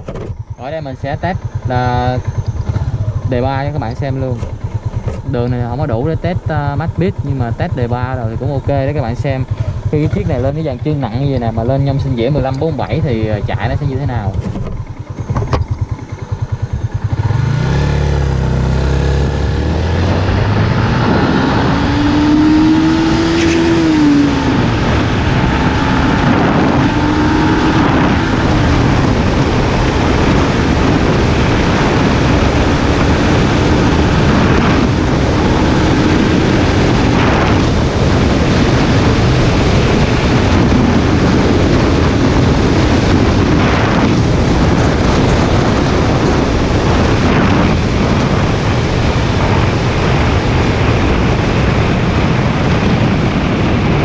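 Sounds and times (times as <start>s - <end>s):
motorcycle engine accelerating: 0.0s - 54.0s
road and wind noise: 0.0s - 54.0s.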